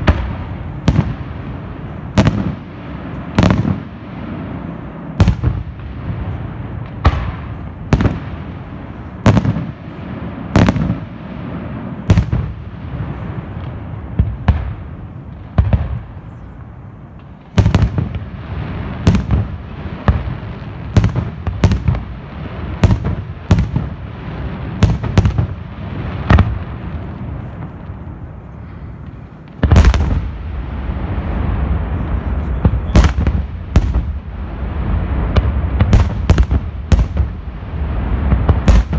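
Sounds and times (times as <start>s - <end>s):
crackle of fireworks: 0.0s - 38.9s.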